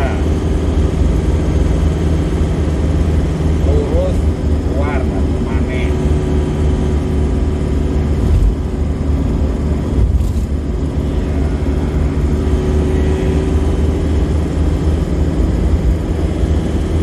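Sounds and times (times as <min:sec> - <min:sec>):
diesel engine droning: 0:00.0 - 0:17.0
tyre road noise: 0:00.0 - 0:17.0.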